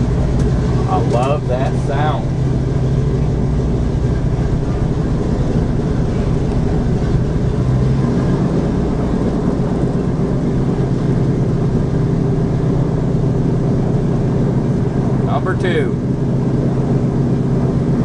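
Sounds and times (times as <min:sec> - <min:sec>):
radial engine droning: 0:00.0 - 0:18.0.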